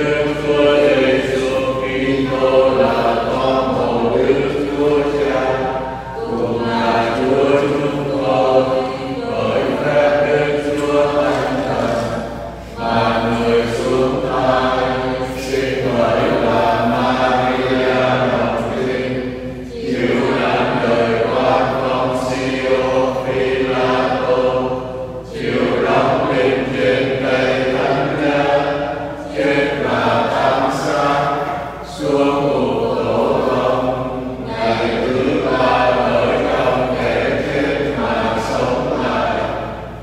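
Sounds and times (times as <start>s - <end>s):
slow hymn singing: 0.0s - 40.0s.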